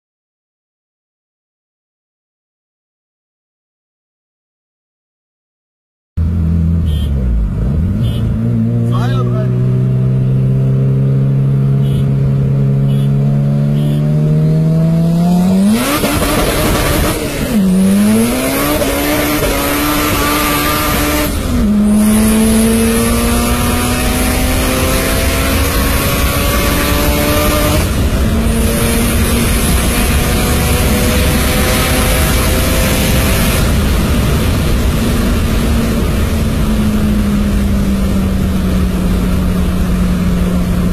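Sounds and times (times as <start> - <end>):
car engine accelerating: 6.2 - 40.9.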